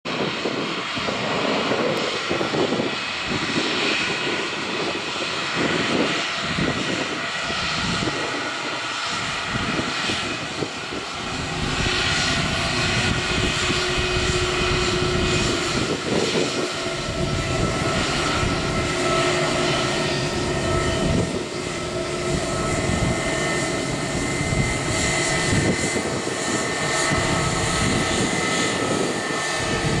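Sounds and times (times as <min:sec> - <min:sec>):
jet airliner taxiing: 0:00.1 - 0:30.0.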